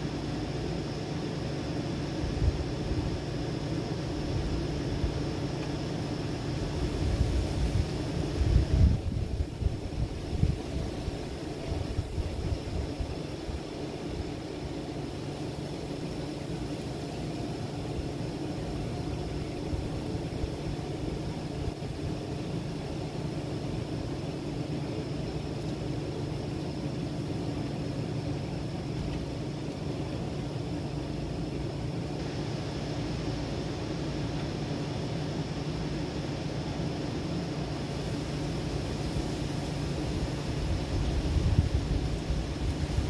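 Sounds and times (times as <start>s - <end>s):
background hiss: 0.0s - 43.0s
low mechanical hum: 0.0s - 43.0s.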